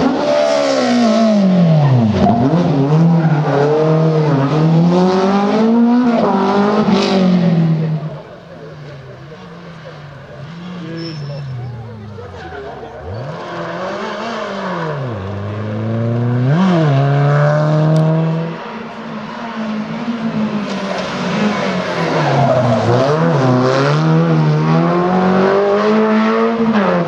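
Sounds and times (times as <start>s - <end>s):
rally car engine revving: 0.0s - 27.0s.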